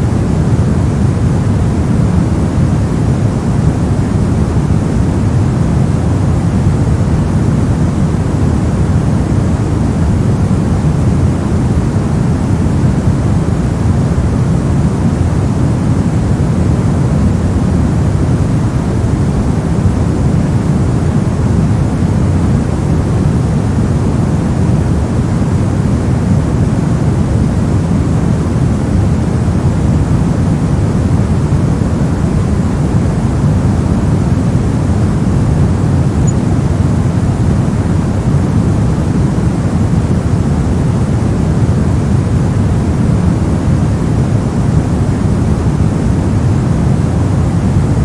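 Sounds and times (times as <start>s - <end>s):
synthetic white noise: 0.0s - 48.0s.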